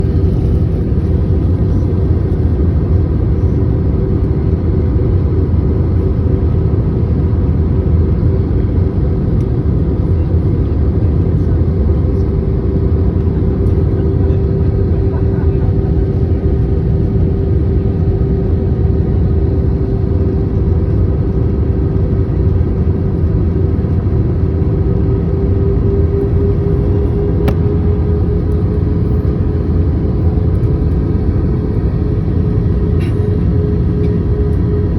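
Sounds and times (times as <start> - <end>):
airliner engine and airflow rumble: 0.0 - 34.9
steady hum: 0.0 - 34.9.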